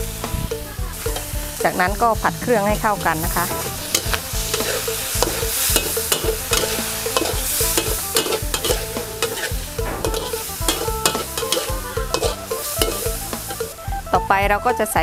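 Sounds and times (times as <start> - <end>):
food sizzling: 0.0 - 15.0
metal spatula scraping a wok: 0.2 - 13.8.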